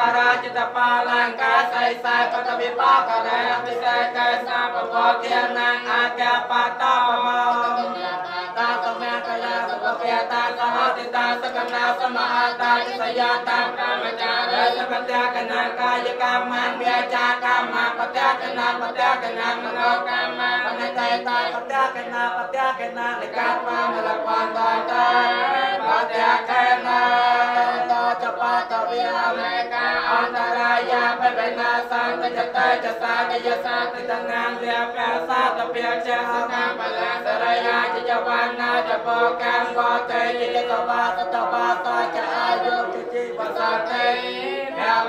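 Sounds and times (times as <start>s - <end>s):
monks chanting in unison: 0.0s - 45.0s.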